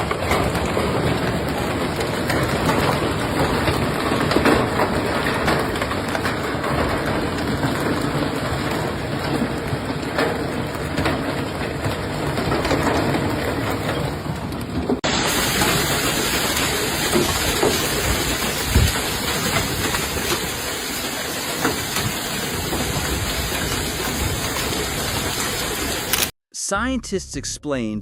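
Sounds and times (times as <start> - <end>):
heavy rain pounding: 0.0 - 26.3.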